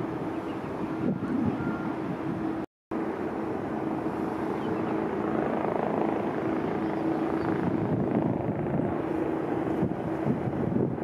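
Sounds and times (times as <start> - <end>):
jet engines at low power: 0.0 - 11.0.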